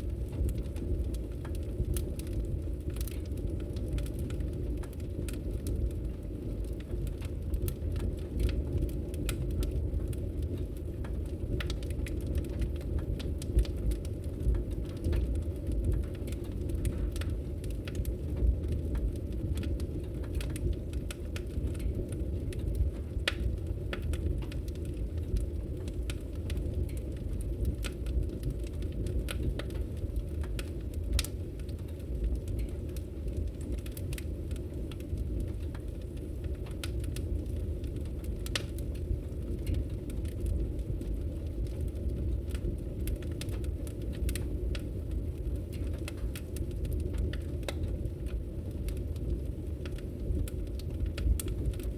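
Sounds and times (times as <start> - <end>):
fire crackling and popping: 0.0 - 51.9
low fire rumble: 0.0 - 51.9.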